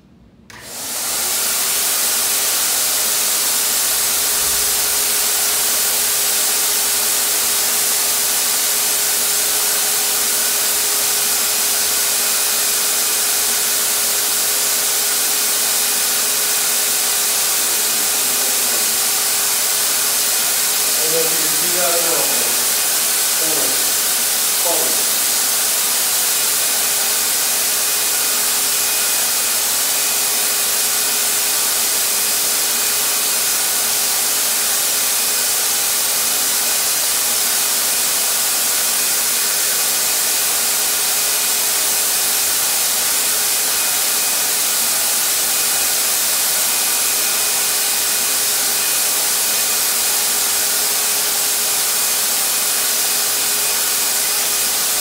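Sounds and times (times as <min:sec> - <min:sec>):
paint sprayer motor whine: 0:00.5 - 0:55.0
hiss of spray gun: 0:00.8 - 0:55.0.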